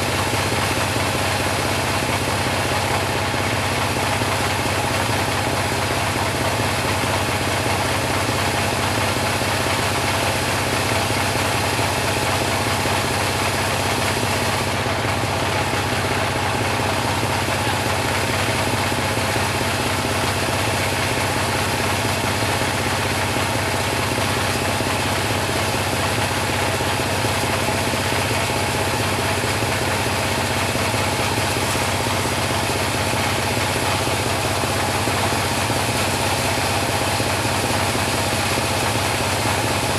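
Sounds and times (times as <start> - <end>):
bandsaw mill engine drone: 0.0 - 39.9.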